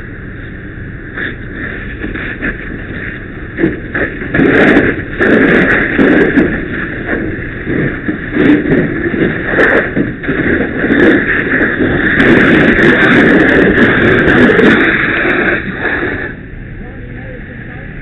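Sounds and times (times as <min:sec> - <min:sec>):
fire hose water hissing: 0:00.4 - 0:16.4.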